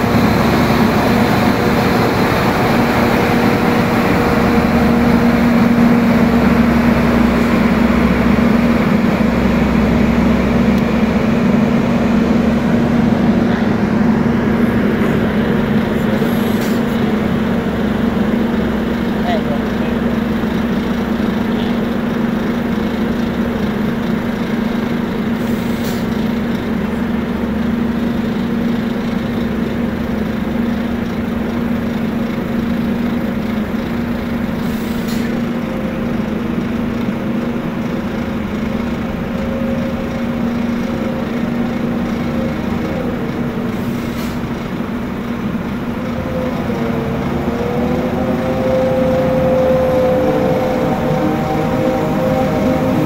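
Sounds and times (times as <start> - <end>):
diesel engine running: 0.0 - 53.0
higher engine tone wavering: 0.0 - 53.0.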